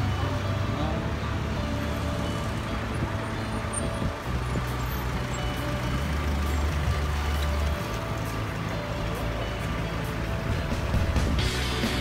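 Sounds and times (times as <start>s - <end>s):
car and van engines running: 0.0s - 12.0s.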